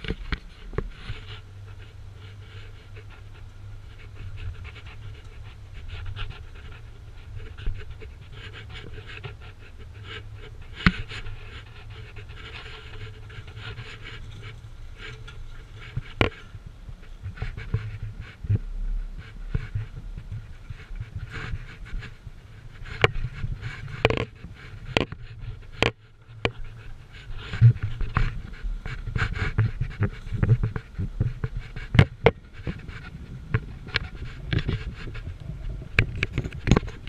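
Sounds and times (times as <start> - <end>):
brush scraping vehicle side: 0.0 - 18.6, 19.2 - 37.0.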